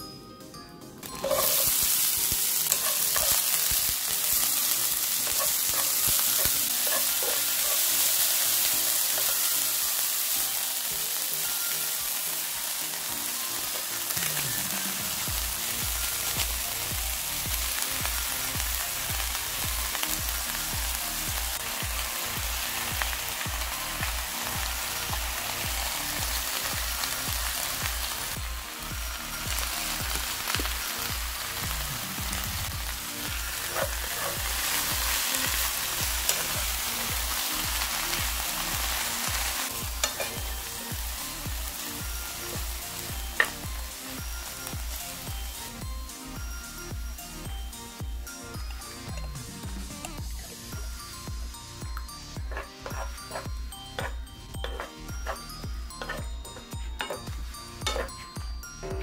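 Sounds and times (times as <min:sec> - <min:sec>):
onion sizzling in hot oil: 0:01.0 - 0:59.0.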